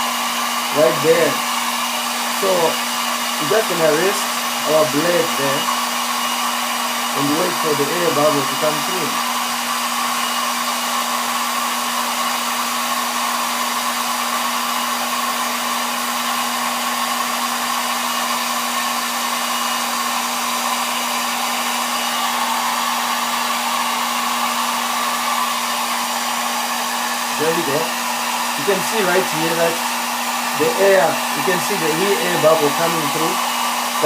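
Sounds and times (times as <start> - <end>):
hot-air blower whirring: 0.0 - 34.0.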